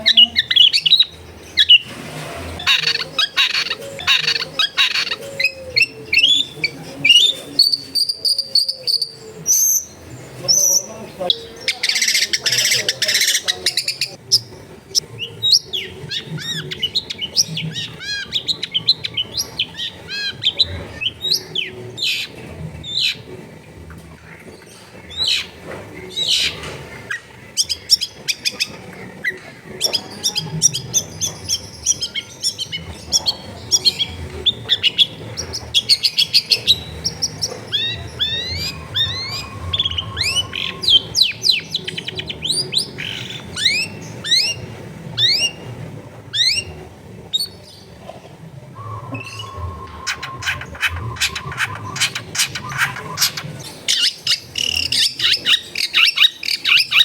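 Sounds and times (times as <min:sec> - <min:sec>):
bird chattering song: 0:00.0 - 0:48.2, 0:48.8 - 0:57.0.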